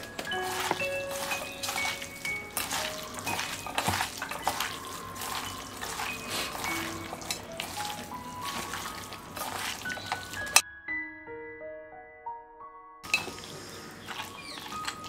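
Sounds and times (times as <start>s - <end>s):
hand mixing raw chicken: 0.0s - 10.6s, 13.0s - 15.0s
background music: 0.0s - 15.0s.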